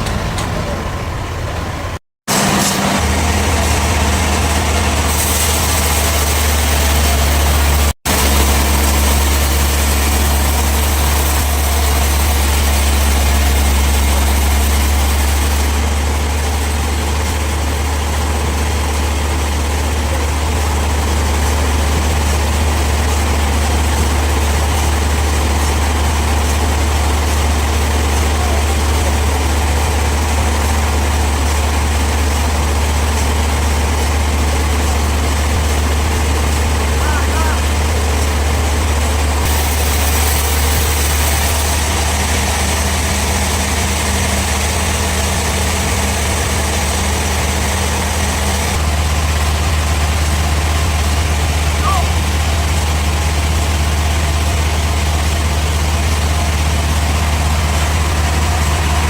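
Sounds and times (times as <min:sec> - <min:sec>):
band sawmill running: 0:00.0 - 0:59.0
low engine hum: 0:00.0 - 0:59.0.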